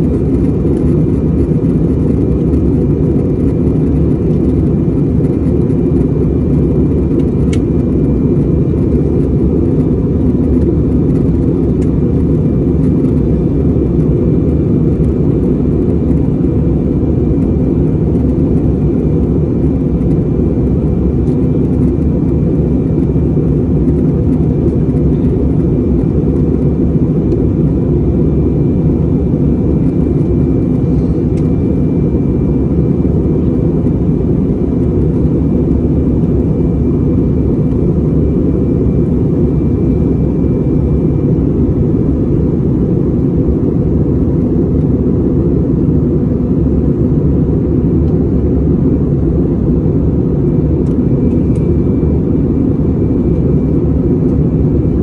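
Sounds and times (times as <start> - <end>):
faint high whine: 0.0 - 55.0
jet engine roar: 0.0 - 55.0.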